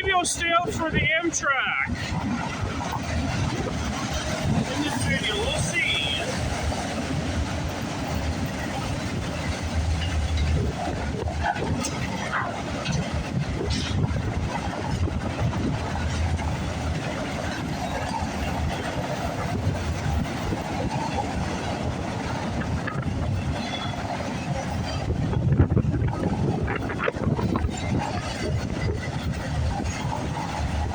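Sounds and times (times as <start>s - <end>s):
train rumbling past: 0.0s - 30.9s
wheels clicking on track: 0.0s - 30.9s
wind on microphone: 1.8s - 30.9s.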